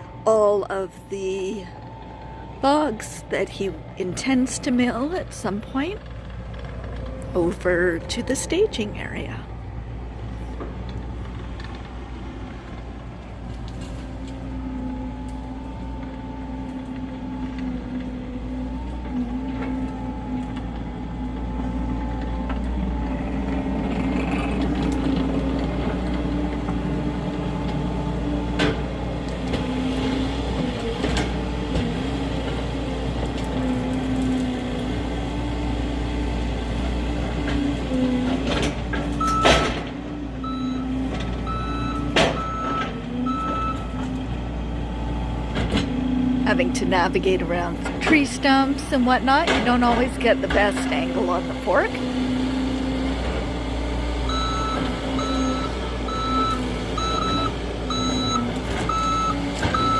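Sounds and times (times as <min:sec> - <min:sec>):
skid steer engine droning: 0:00.0 - 0:59.9.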